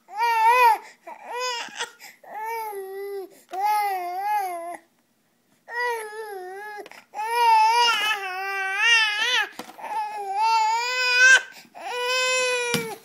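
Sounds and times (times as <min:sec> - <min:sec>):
infant crying: 0:00.0 - 0:04.8, 0:05.7 - 0:13.0.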